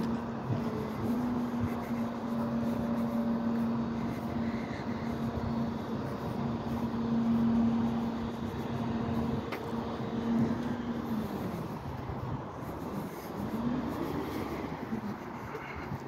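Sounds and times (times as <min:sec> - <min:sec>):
outdoor street noise: 0:00.0 - 0:16.0
truck engine hum: 0:00.0 - 0:16.0.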